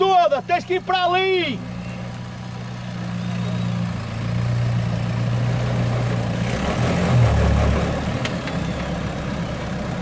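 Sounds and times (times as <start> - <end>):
engine running at low revs: 1.5 - 10.0.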